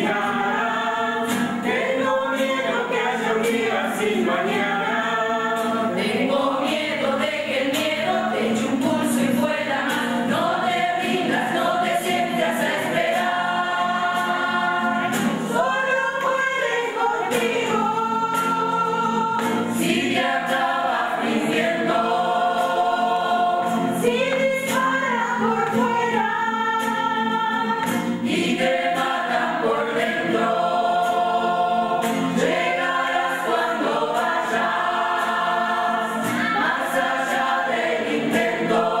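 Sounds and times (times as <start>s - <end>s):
choir singing: 0.0s - 39.0s.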